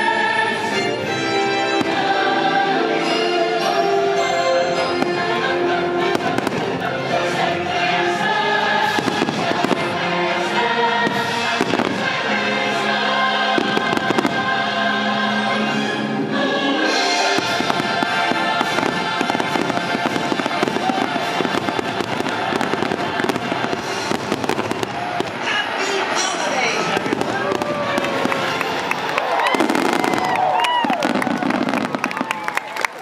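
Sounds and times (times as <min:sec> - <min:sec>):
choral music: 0:00.0 - 0:32.1
fireworks bursting and crackling: 0:01.6 - 0:02.3, 0:04.8 - 0:16.0, 0:16.8 - 0:33.0.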